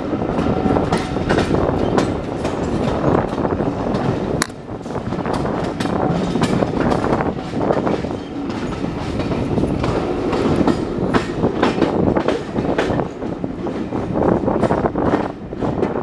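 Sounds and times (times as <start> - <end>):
train rolling rumble: 0.0 - 16.0
train wheels clattering over rail joints: 0.0 - 16.0.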